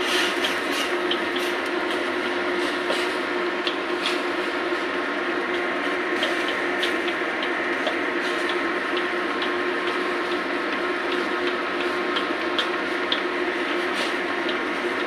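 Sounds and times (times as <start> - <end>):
broth boiling and bubbling: 0.0 - 15.0.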